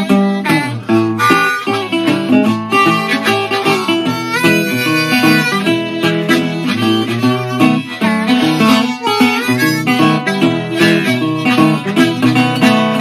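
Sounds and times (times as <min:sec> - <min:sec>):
blues harmonica bending notes: 0:00.0 - 0:13.0
resonator guitar picking: 0:00.0 - 0:13.0.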